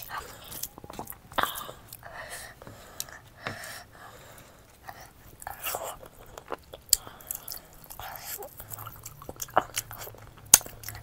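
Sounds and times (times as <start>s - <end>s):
wet chewing: 0.0s - 3.8s, 4.8s - 11.0s.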